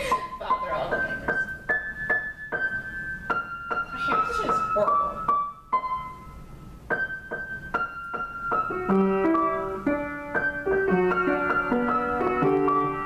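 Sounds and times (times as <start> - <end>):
upright piano playing: 0.0 - 13.0.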